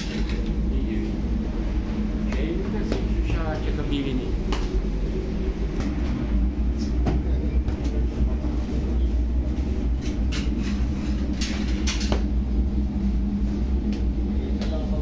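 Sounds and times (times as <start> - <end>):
faint hum: 0.0 - 15.0
low mechanical rumble: 0.0 - 15.0.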